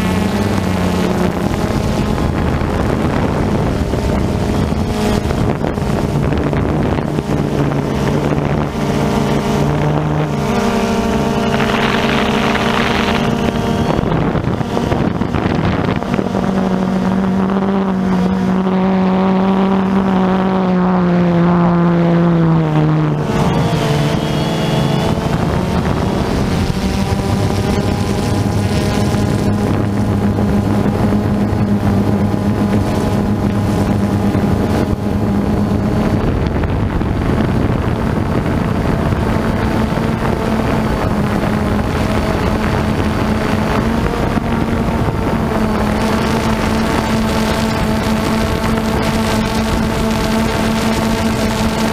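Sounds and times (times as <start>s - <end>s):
drone propellers humming: 0.0s - 51.9s
wind on microphone: 0.0s - 51.9s.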